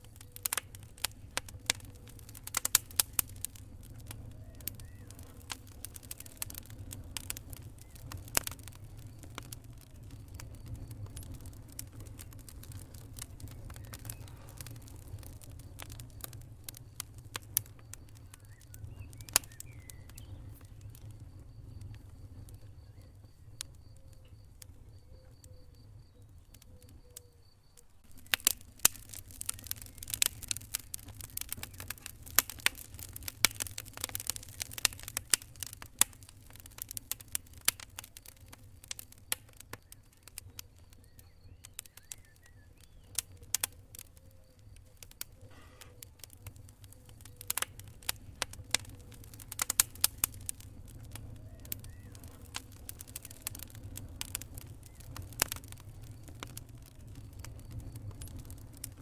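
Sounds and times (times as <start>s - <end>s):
fire low rumble: 0.0s - 59.0s
wood fire crackling: 0.0s - 59.0s.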